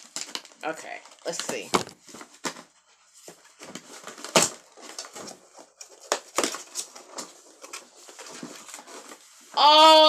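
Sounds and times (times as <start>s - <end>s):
cardboard crackling and tearing: 0.0s - 9.5s.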